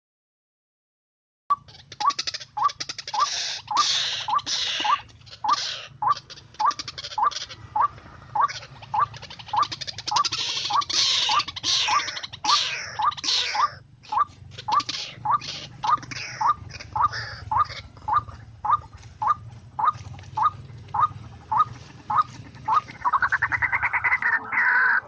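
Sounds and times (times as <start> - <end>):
waterhen rising call notes: 1.5 - 25.0
harsh raspy croaks: 1.6 - 25.0.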